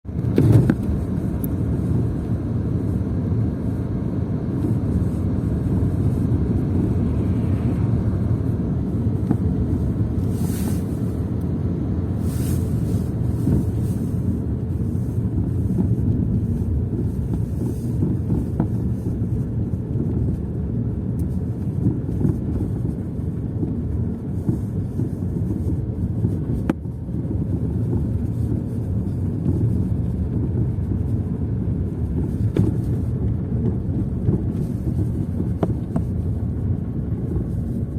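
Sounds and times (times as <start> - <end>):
road and tyre rumble: 0.0 - 37.9.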